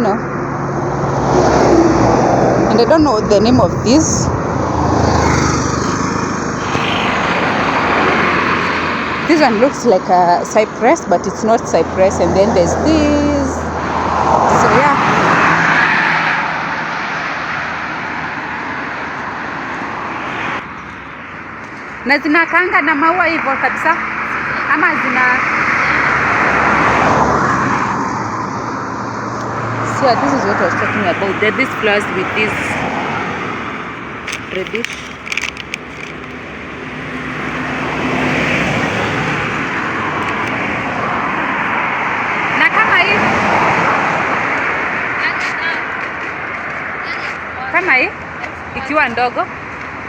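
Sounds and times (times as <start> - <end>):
vehicle passing on road: 0.0 - 50.0.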